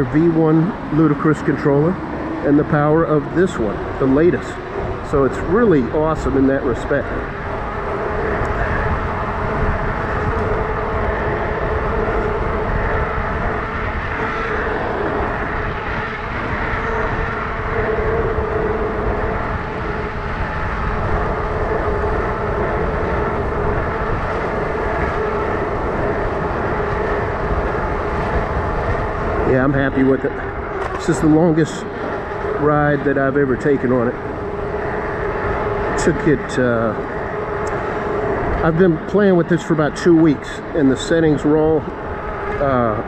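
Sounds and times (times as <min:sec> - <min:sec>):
electric bike motor and tire hum: 0:00.0 - 0:43.0
wind on microphone: 0:00.0 - 0:43.0.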